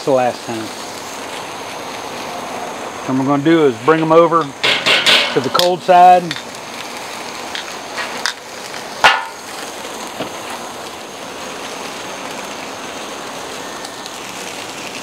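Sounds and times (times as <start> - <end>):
steaks sizzling on charcoal grill: 0.0 - 15.0.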